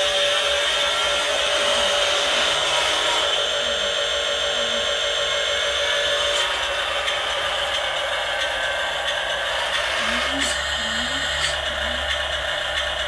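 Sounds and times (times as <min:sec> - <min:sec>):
toy truck motor whirring: 0:00.0 - 0:13.0.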